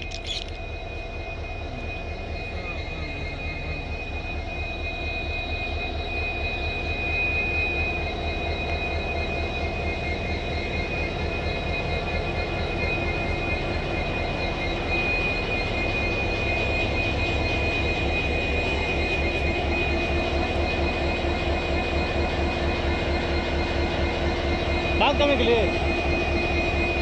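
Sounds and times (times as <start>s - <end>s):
diesel locomotive engines droning: 0.0s - 27.0s
high whine: 0.0s - 27.0s.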